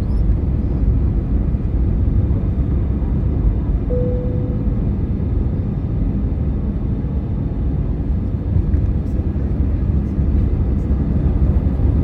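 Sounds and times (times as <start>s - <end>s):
jet engine roar in cabin: 0.0s - 12.0s.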